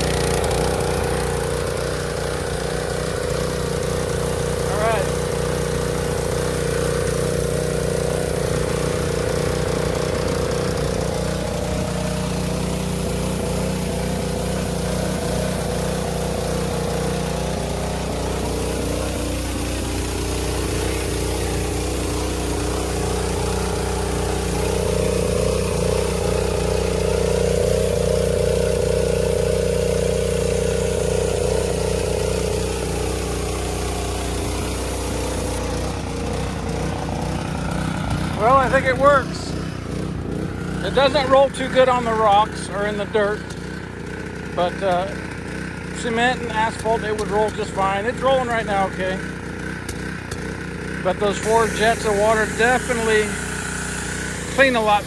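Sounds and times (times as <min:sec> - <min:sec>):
pressure washer engine running: 0:00.0 - 0:55.0
water jets hissing on ground: 0:00.0 - 0:55.0.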